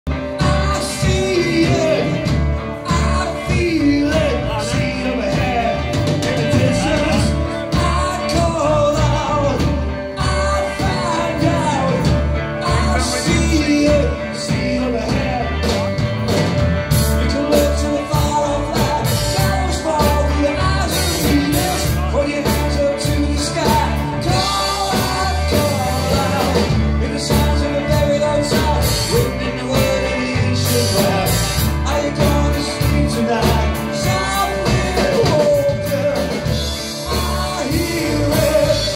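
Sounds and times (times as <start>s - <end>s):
rock band playing: 0.0s - 38.9s
lead vocal singing: 0.1s - 38.9s.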